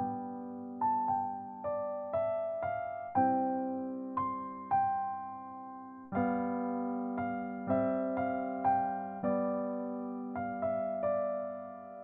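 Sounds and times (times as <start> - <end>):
soft piano-like keyboard music: 0.0 - 12.0.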